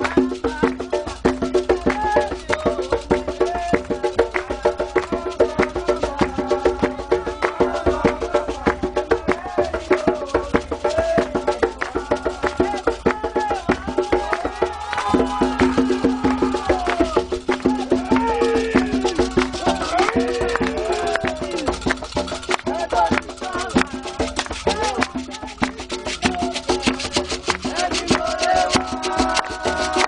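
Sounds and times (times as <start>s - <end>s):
fast steady percussion: 0.0s - 30.0s
voices singing: 0.0s - 30.0s.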